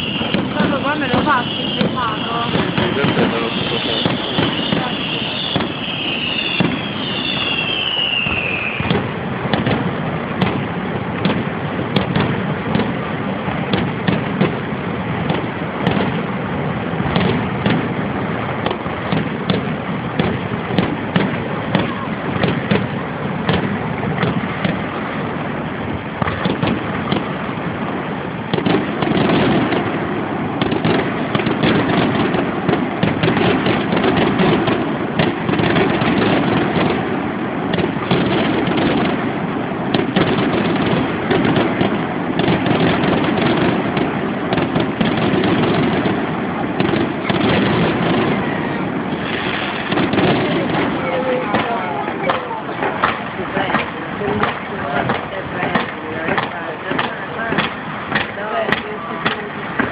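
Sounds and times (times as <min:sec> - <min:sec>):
falling fireworks whistles: 0:00.0 - 0:59.9
fireworks bursts and crackling: 0:00.0 - 0:59.9.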